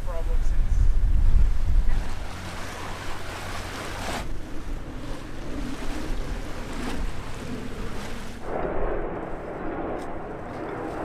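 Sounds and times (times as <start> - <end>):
steady low rumble: 0.0 - 11.0
wind gusting on microphone: 0.0 - 11.0
water washing past boat: 0.9 - 11.0.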